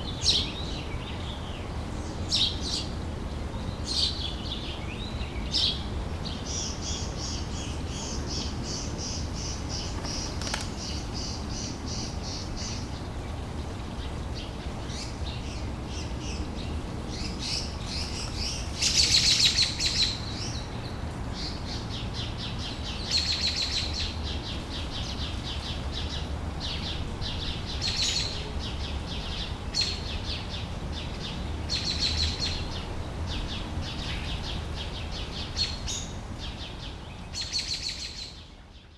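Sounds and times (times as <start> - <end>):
songbirds chirping and trilling: 0.0 - 38.9
steady low background noise: 0.0 - 38.9.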